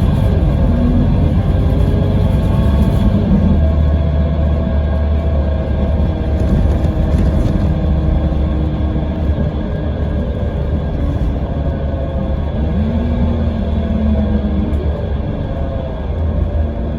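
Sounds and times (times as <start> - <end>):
diesel engine rumbling: 0.0 - 16.9.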